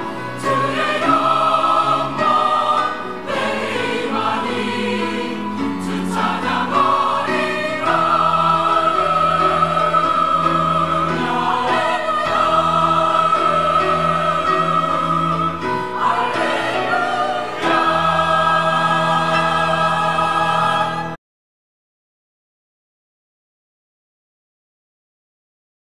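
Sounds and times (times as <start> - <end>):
church choir singing: 0.0 - 21.2.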